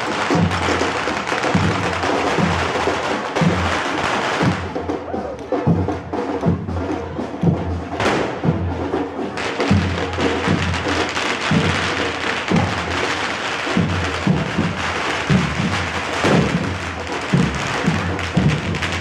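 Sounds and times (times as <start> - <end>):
drums beating slowly: 0.0 - 19.0
steady noisy din: 0.0 - 19.0.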